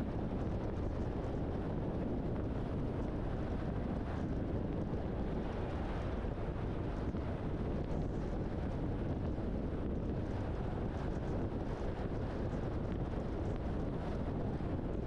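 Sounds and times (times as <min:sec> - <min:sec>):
truck road and wind noise: 0:00.0 - 0:15.0.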